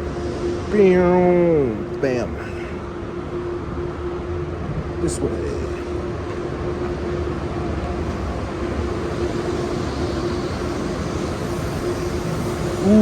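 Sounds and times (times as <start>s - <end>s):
constant hum: 0.0s - 13.0s
traffic hiss: 0.0s - 13.0s.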